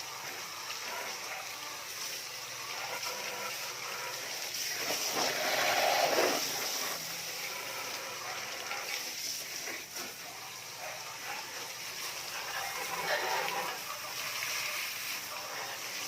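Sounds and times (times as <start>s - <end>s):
water spraying and splattering: 0.0s - 16.0s.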